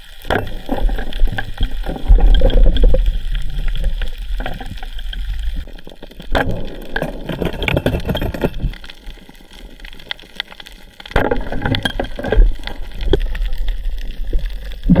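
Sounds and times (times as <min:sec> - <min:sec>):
clicks and crackles: 0:00.0 - 0:15.0
water sloshing and gurgling: 0:00.0 - 0:15.0.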